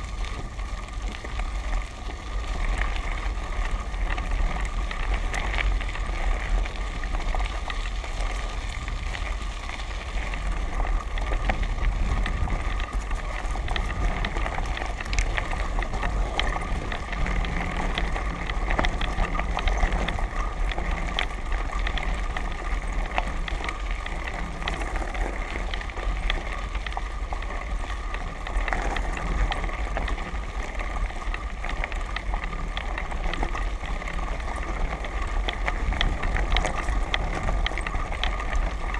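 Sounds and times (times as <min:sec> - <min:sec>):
small clicks and rattles: 0:00.0 - 0:38.9
tyres crunching on gravel: 0:00.0 - 0:38.9.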